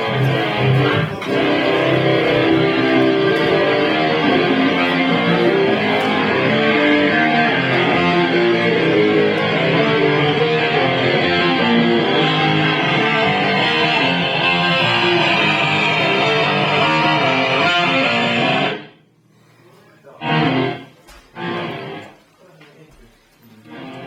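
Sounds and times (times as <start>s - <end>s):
band playing led by guitar: 0.0s - 18.9s, 20.2s - 22.1s, 23.7s - 24.0s.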